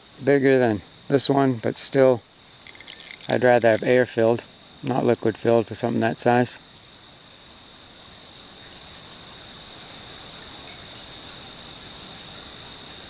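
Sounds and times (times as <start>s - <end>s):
background hiss: 0.0s - 13.0s
insects trilling: 0.0s - 13.0s.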